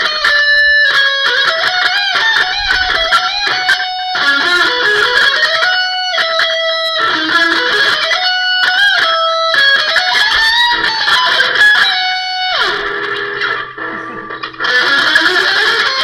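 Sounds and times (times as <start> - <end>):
electric guitar lead with string bends: 0.0 - 16.0.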